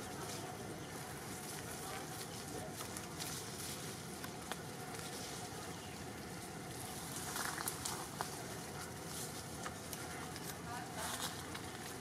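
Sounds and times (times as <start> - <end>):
outdoor background noise: 0.0 - 12.0
rustling leaves and twigs: 0.0 - 12.0.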